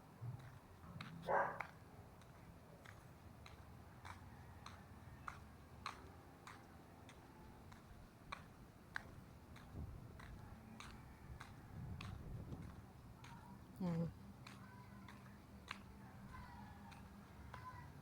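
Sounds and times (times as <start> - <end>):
clicky footsteps: 0.2 - 17.9.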